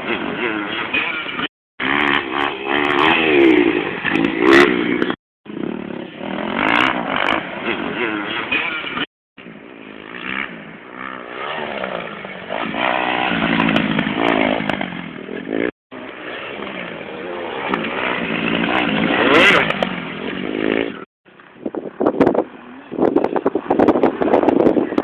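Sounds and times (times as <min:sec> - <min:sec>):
dirt bike engines revving: 0:00.0 - 0:21.1.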